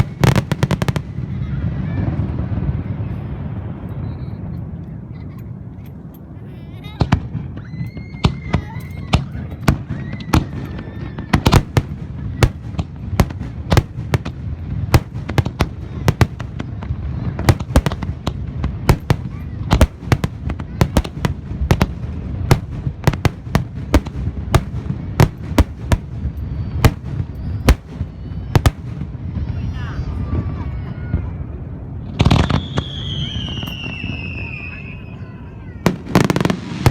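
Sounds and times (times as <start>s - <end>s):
firework whistles gliding: 0.0s - 2.4s, 7.1s - 36.9s
fireworks bangs: 0.0s - 5.4s, 6.8s - 36.9s
continuous low rumble: 0.0s - 36.9s.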